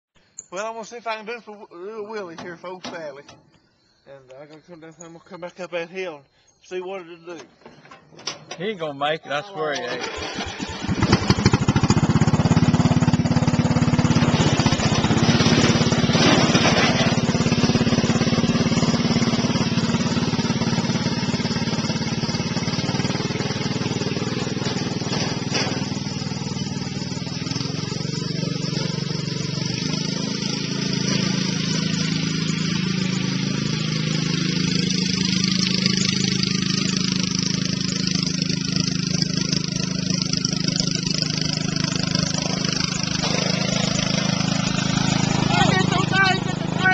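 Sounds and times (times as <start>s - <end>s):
riding lawn mower engine: 0.2s - 46.9s.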